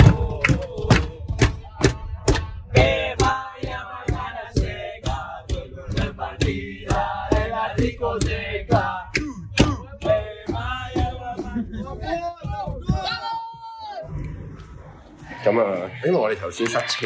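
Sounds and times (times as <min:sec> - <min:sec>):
music with drumbeat and vocals: 0:00.0 - 0:13.8.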